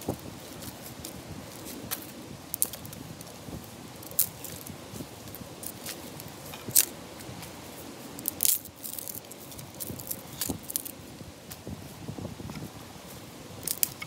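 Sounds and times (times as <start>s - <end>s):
dry twigs cracking and clattering: 0.0s - 7.6s, 8.2s - 11.6s, 13.6s - 14.0s.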